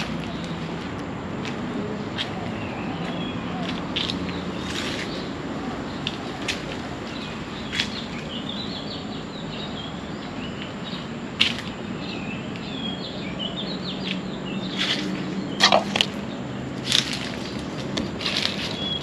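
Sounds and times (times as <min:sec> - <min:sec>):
birds chirping: 0:00.0 - 0:19.0
steady background hiss: 0:00.0 - 0:19.0.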